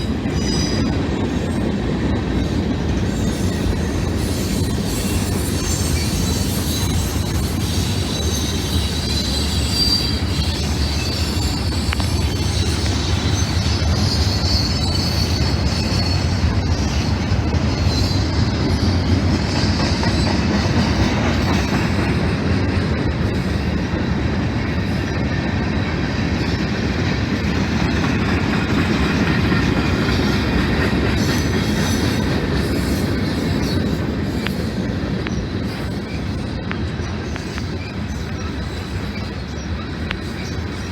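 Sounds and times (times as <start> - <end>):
high wheel squeal: 0.0 - 1.6, 2.4 - 22.4, 26.4 - 40.9
train wheels clattering on rails: 0.0 - 40.9.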